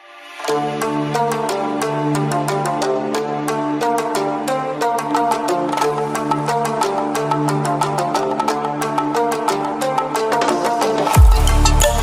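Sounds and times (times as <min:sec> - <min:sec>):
upbeat instrumental music: 0:00.4 - 0:12.0.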